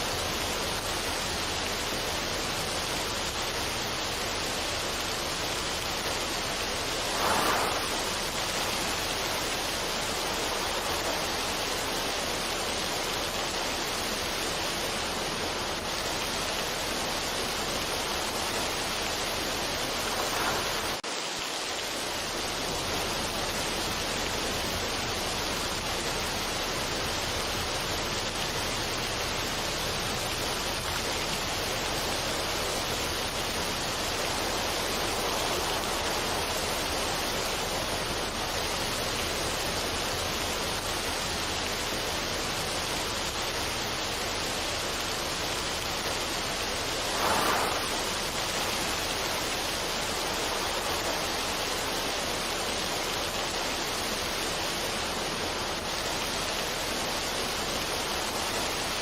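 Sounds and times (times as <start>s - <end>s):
steady rushing noise: 0.0s - 57.3s.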